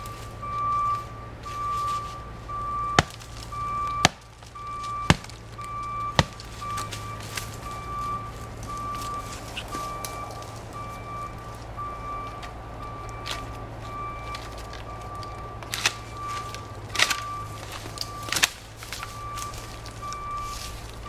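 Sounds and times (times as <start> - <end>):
high beeping tone: 0.0 - 18.3.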